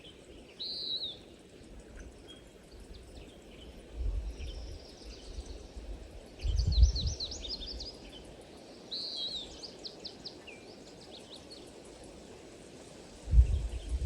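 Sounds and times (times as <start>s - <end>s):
songbirds chirping: 0.0s - 12.5s
steady hiss: 0.0s - 14.0s.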